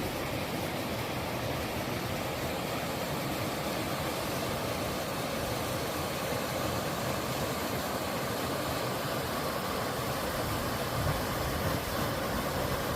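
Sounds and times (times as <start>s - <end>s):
water rushing over rock: 0.0s - 12.9s.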